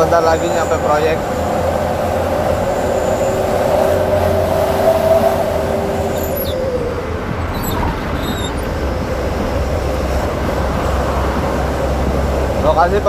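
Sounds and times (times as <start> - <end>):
diesel engine drone: 0.0 - 13.0
road and tyre noise: 0.0 - 13.0.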